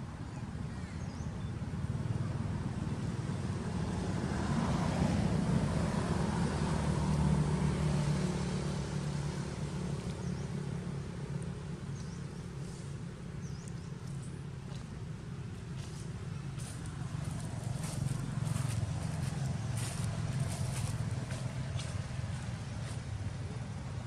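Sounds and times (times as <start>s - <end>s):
vehicle engine passing by: 1.8s - 14.9s, 15.7s - 24.0s.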